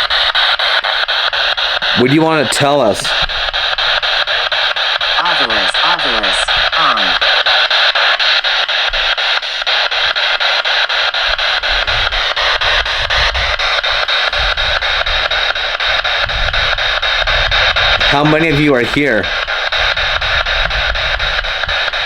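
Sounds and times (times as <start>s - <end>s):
pulsing radio static: 0.0s - 22.0s.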